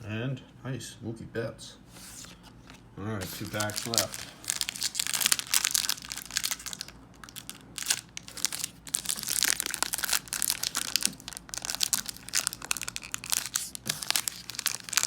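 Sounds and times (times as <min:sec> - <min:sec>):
plastic wrapper crinkling and tearing: 0:02.2 - 0:15.0.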